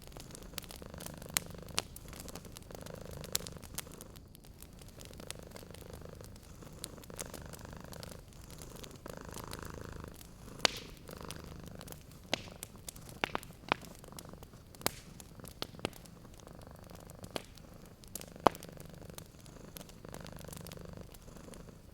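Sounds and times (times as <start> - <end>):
cat purring: 0.0 - 21.9
wood fire crackling and popping: 0.0 - 21.9.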